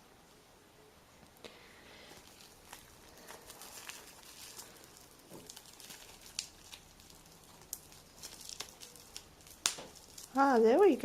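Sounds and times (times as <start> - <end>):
bubble wrap crinkling: 1.2 - 11.0.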